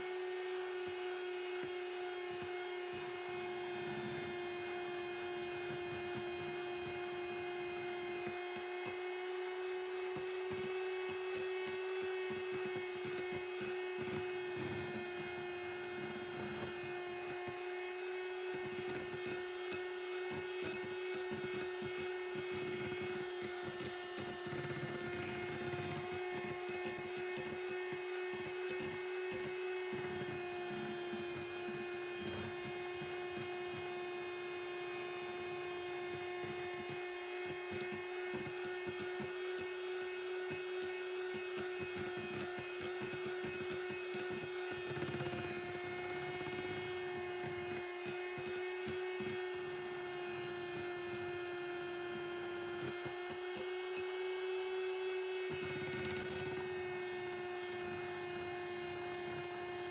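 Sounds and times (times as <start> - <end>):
electric mixer motor humming: 0.0 - 59.9
beaters scraping bowl: 5.5 - 34.0, 35.4 - 59.9.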